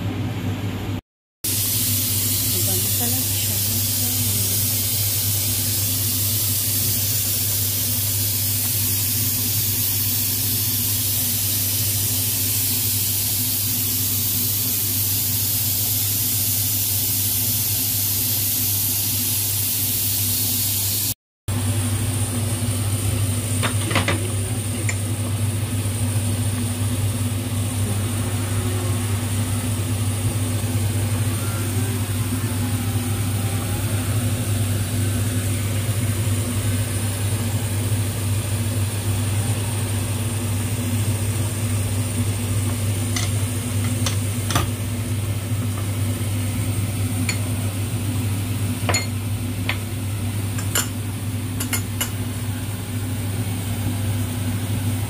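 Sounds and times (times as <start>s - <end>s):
low mechanical hum: 0.0s - 55.0s
soup boiling in a pot: 4.4s - 31.3s, 32.0s - 55.0s.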